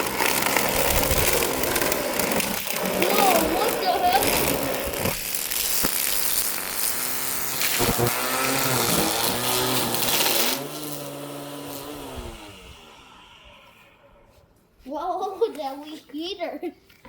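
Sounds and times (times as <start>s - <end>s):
string trimmer cutting grass: 0.0s - 14.4s
trimmer motor whine: 0.0s - 14.4s.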